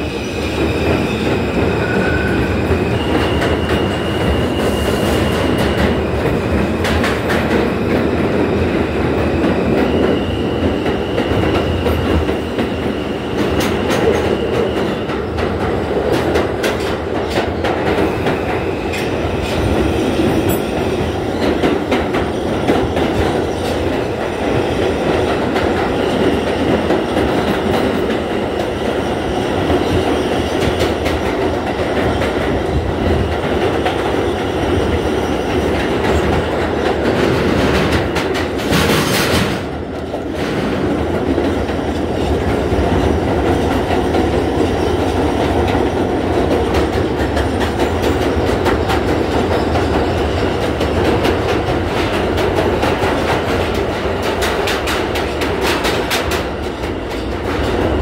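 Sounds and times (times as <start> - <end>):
train wheels roaring on rail: 0.0 - 58.0.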